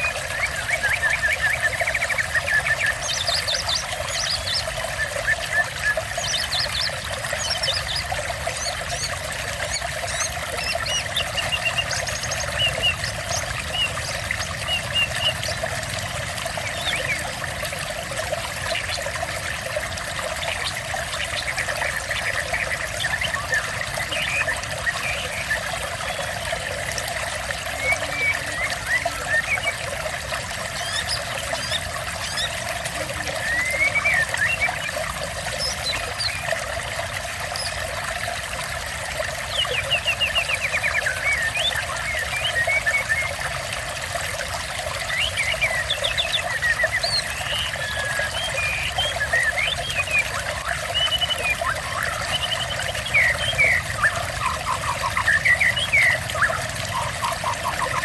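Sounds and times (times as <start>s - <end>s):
small birds chirping: 0.0s - 38.4s, 39.4s - 43.6s, 44.7s - 58.0s
water trickling: 0.0s - 58.0s.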